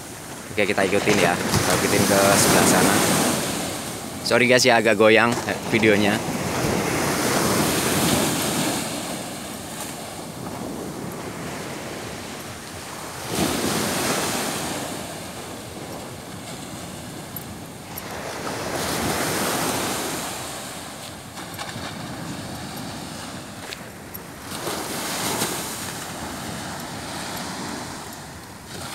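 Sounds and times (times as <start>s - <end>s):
sea surf breaking on shore: 0.0s - 28.9s
wind buffeting microphone: 5.1s - 28.9s.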